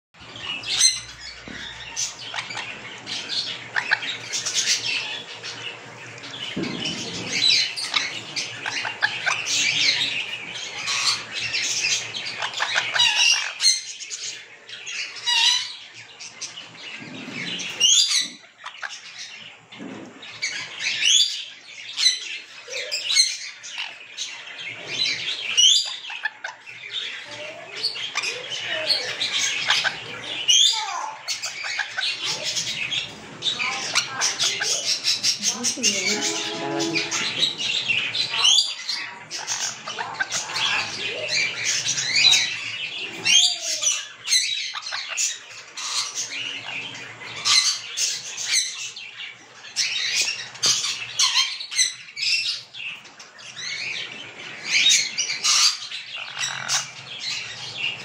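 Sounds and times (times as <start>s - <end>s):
parrots chirping and squawking: 0.2s - 58.0s.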